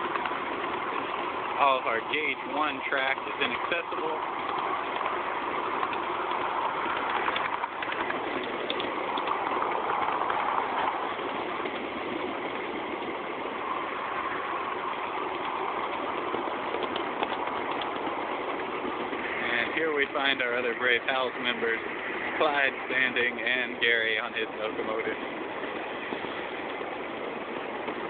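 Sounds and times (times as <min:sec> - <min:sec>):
miniature train running on track: 0:00.0 - 0:28.0.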